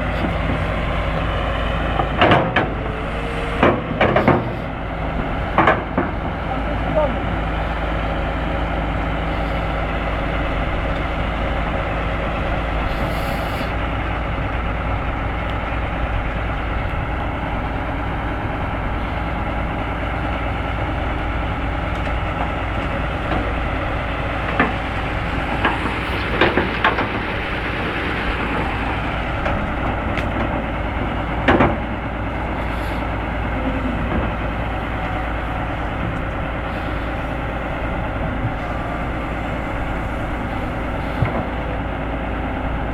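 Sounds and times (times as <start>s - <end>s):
heavy diesel machinery running: 0.0s - 42.9s.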